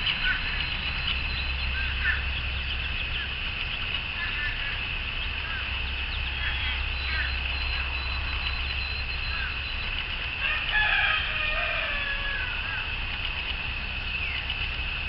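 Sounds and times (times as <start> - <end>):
birds chirping: 0.0 - 15.0
high-pitched drone: 0.0 - 15.0.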